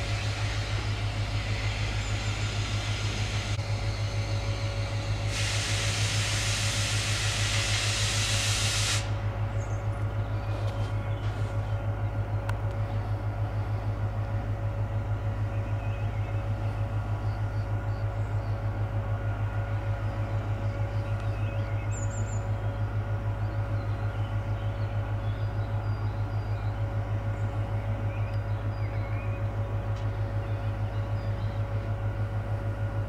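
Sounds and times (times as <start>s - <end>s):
diesel locomotive engine throbbing: 0.0s - 33.0s.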